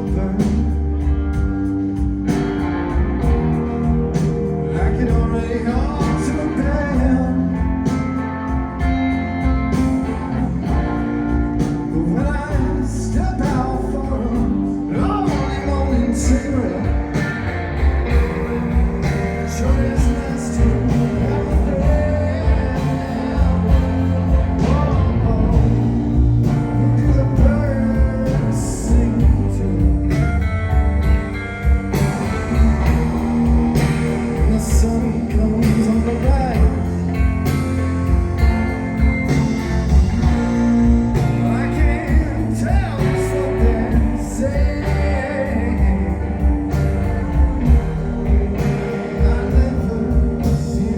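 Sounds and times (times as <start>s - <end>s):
live blues-rock band: 0.0s - 50.9s
person singing: 4.6s - 8.1s, 11.8s - 30.8s, 31.9s - 50.9s.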